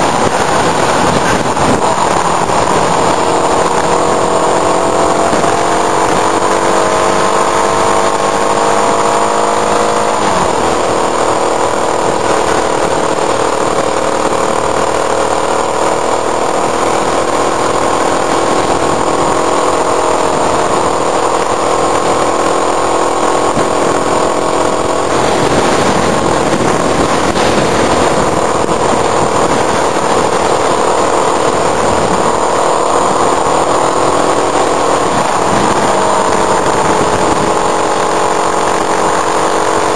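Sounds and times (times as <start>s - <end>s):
motorcycle engine revving: 0.0s - 39.9s
wind and road noise hiss: 0.0s - 39.9s.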